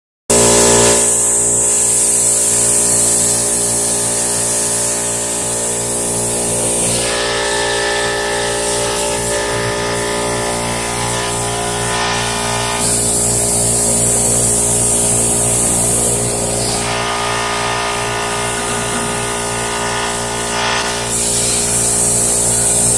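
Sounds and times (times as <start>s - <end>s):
plasma cutter hissing: 0.3s - 22.9s.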